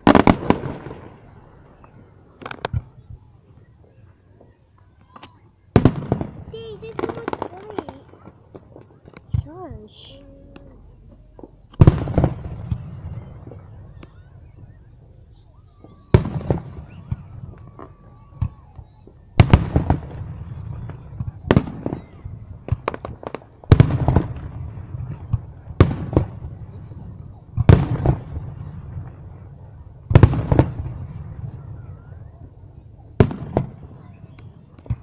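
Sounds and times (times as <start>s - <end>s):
crackling rumbling firework tail: 0.0s - 35.0s
fireworks bursting with loud bangs: 0.0s - 35.0s.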